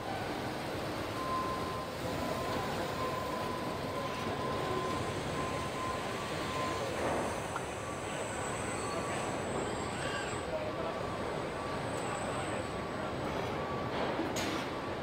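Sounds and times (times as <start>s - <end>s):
faint steady whine: 0.0s - 14.0s.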